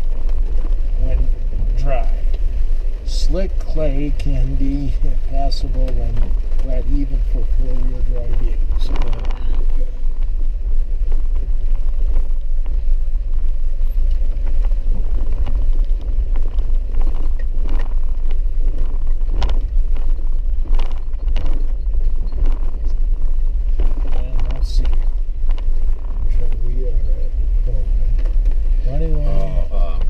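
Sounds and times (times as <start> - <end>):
car interior rumble: 0.0 - 30.0.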